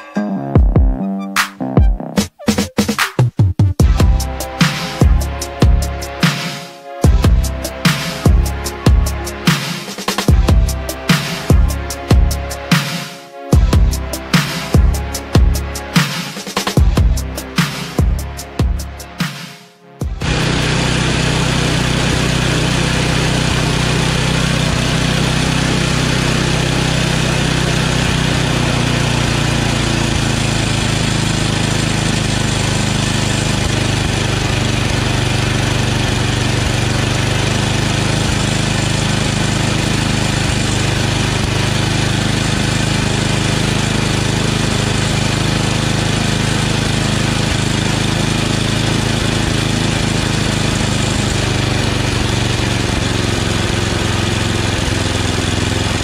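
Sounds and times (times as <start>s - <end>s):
snowblower engine running: 3.8s - 19.3s, 20.0s - 56.0s.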